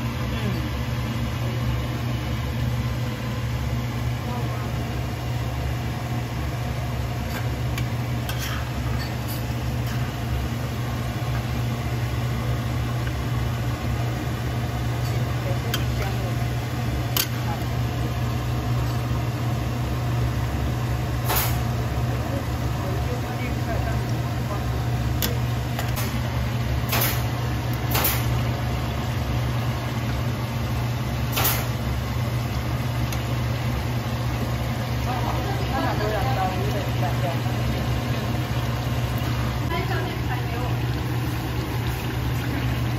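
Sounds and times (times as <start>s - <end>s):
constant low hum: 0.0s - 42.9s
oil sizzling and bubbling: 0.0s - 42.9s.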